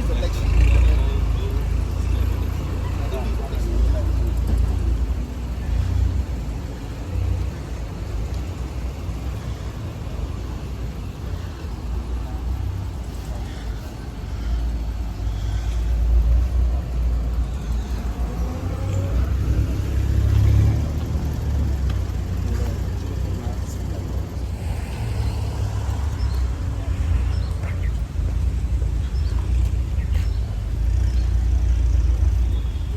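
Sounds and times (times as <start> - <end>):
low rumble of car engines: 0.0 - 32.9.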